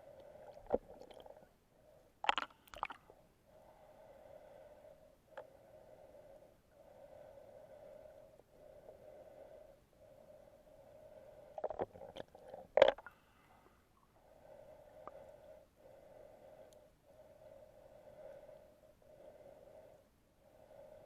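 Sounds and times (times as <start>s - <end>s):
underwater snorkel breathing: 3.0s - 21.0s.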